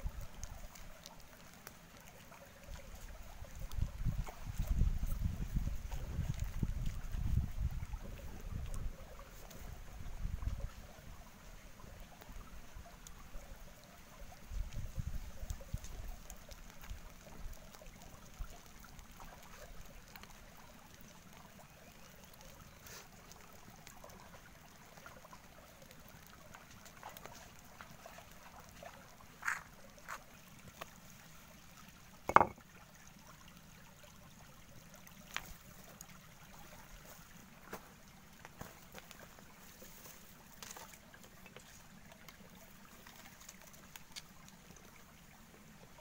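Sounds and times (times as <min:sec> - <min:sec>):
stream water trickling: 0:00.0 - 0:46.0.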